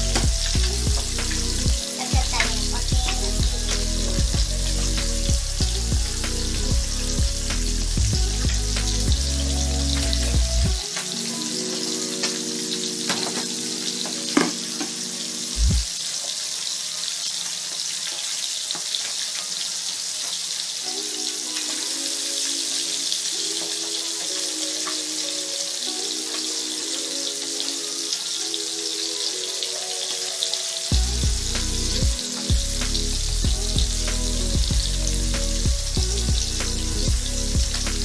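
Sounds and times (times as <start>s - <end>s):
background music: 0.0s - 38.0s
fish sizzling in hot oil: 0.0s - 38.0s.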